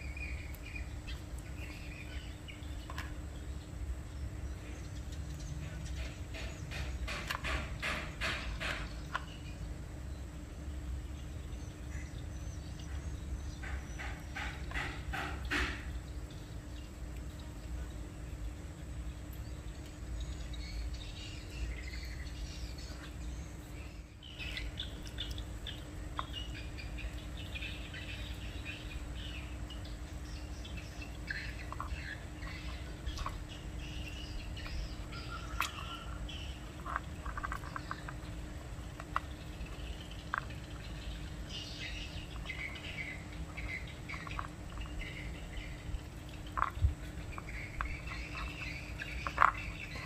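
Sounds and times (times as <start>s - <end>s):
low hum and rumble: 0.0s - 50.0s
small birds chirping: 0.0s - 50.0s.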